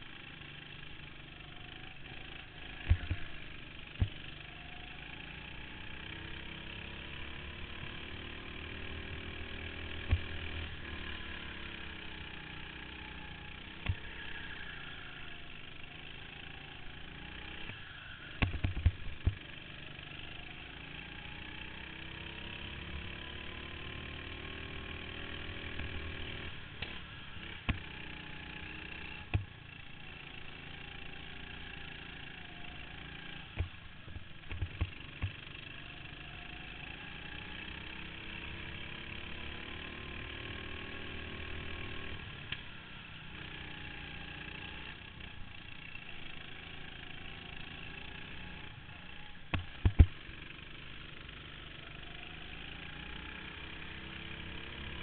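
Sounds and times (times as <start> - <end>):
go-kart engine revving: 0.0 - 55.0.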